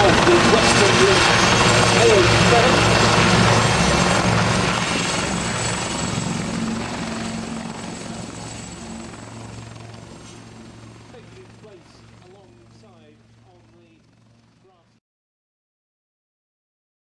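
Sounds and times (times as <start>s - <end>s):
helicopter flying: 0.0s - 15.0s.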